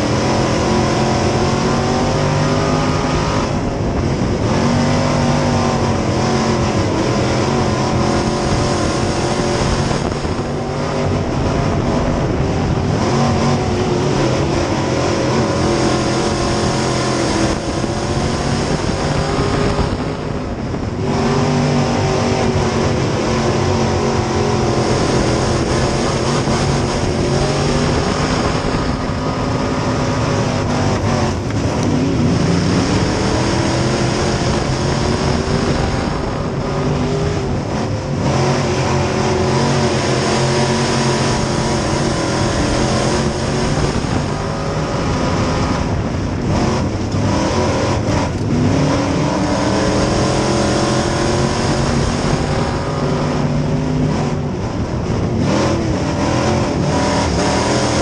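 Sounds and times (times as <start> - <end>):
other race car engines: 0.0 - 58.0
race car engine running hard: 0.0 - 58.0.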